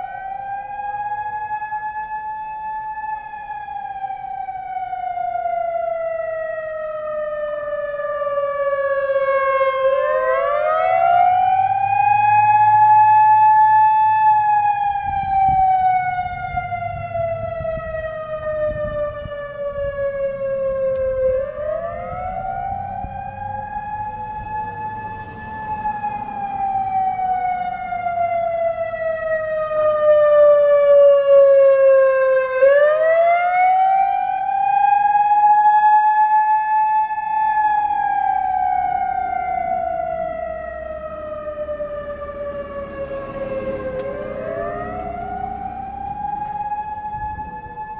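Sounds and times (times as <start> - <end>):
warning siren wailing: 0.0 - 47.9.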